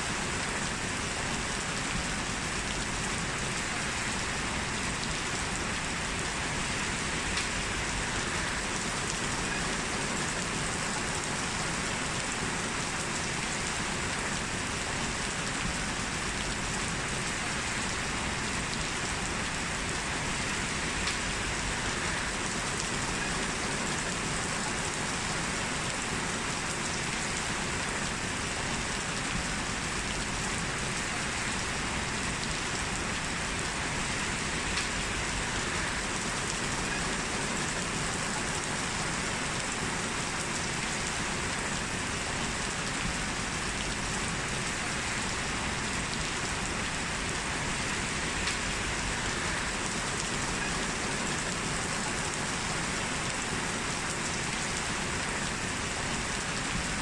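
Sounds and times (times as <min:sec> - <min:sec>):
heavy rain on hard surfaces: 0:00.0 - 0:57.0.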